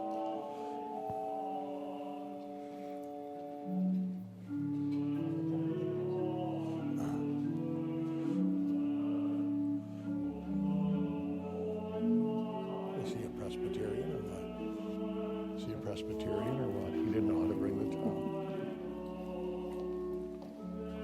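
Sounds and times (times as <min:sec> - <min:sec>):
slow church music: 0:00.0 - 0:21.0.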